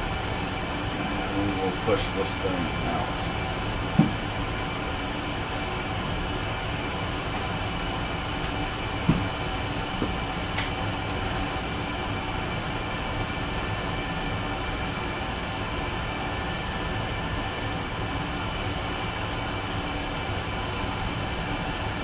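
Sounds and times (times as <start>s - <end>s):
fan hum: 0.0s - 22.0s.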